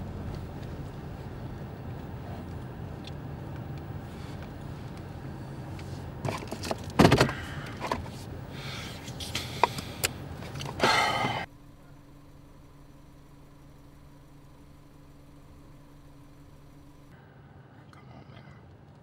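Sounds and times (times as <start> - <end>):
car interior low hum: 0.0 - 19.0.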